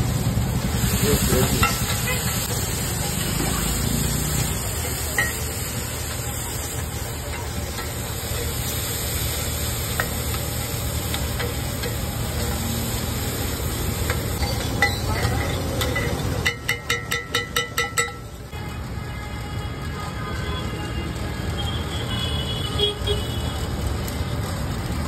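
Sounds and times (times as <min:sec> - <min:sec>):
eggs sizzling on griddle: 0:00.0 - 0:25.0.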